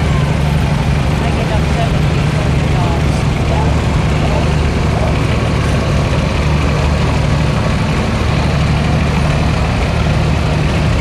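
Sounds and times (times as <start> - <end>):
garden tractor engine droning: 0.0 - 11.0.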